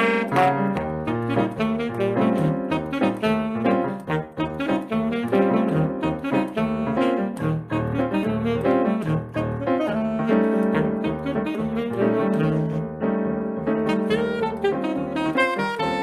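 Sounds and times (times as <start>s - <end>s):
piano chords: 0.0s - 16.0s
tenor melody line: 0.0s - 16.0s
walking bass: 0.0s - 16.0s.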